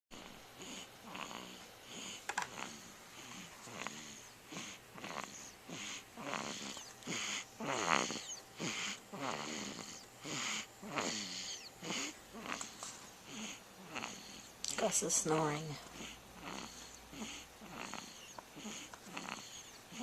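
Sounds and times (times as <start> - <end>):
person snoring: 0.1 - 14.5, 16.0 - 20.0.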